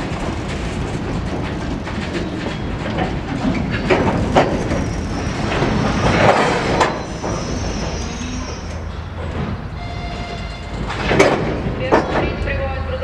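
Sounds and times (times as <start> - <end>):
metallic wheel-on-rail noise: 0.0 - 13.0
steel wheels clacking over rail joints: 0.0 - 13.0.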